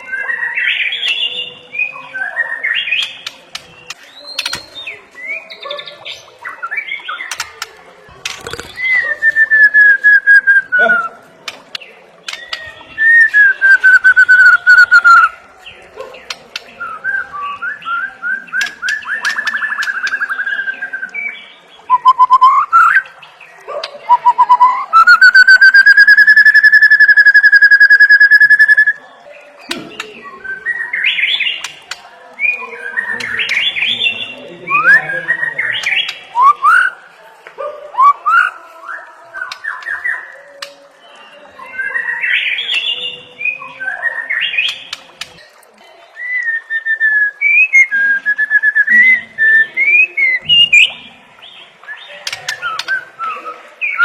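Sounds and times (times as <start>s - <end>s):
songbird singing whistled notes: 0.0s - 23.3s, 23.9s - 37.0s, 38.0s - 54.0s.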